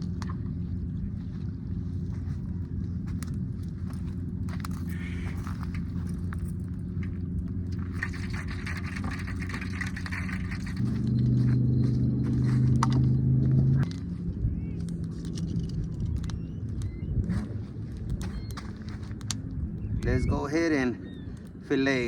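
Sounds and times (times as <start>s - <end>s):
motor engine running: 0.0s - 21.7s.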